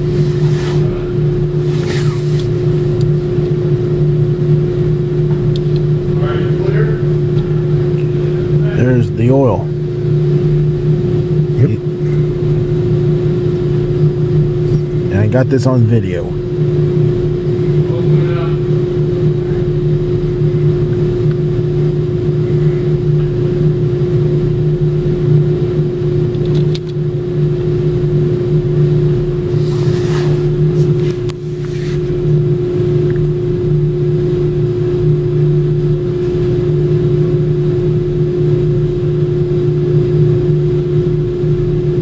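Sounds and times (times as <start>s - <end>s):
mechanical drone: 0.0s - 42.0s.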